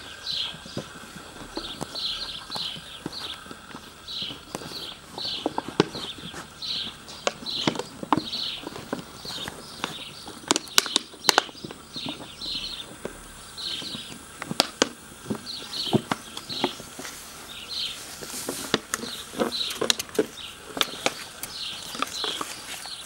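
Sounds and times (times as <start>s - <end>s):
crinkly plastic crackling: 0.0s - 23.0s.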